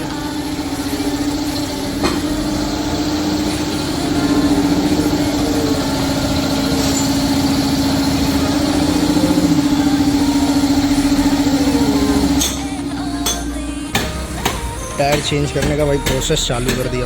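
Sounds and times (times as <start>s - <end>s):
small engine running: 0.0s - 15.8s.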